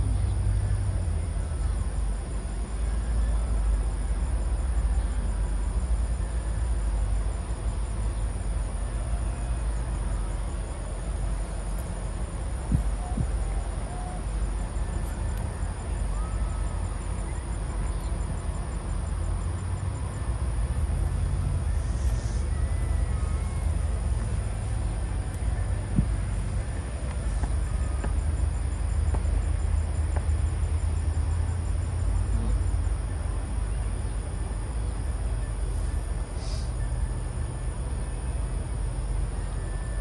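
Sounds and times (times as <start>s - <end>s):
insects chirring: 0.0s - 40.0s
steady low rumble: 0.0s - 40.0s.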